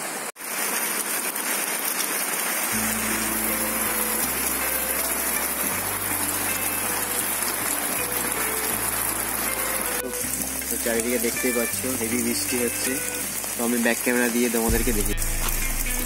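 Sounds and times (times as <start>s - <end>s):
heavy rain falling: 0.0s - 16.0s
slow background music: 2.7s - 16.0s.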